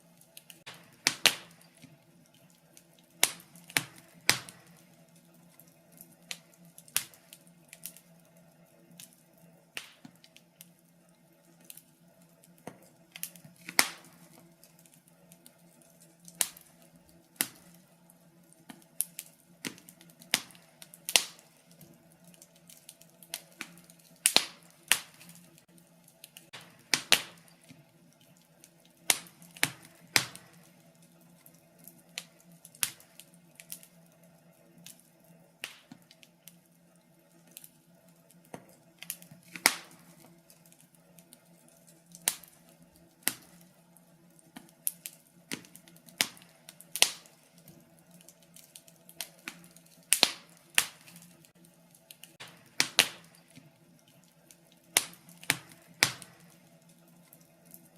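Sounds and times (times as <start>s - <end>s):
faint steady hum: 0.0s - 57.9s
wood fire crackling: 0.0s - 57.9s.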